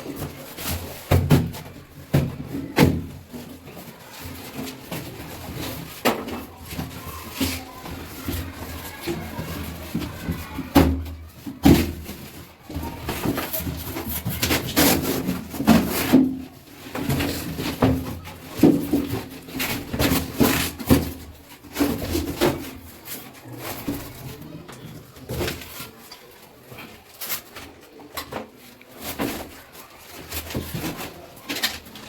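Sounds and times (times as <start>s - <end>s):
tools knocking and scraping: 0.0s - 32.0s.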